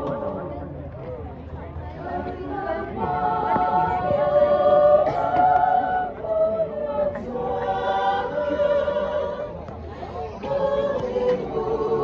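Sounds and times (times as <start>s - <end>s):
mixed choir singing in harmony: 0.0s - 0.5s, 2.0s - 12.0s.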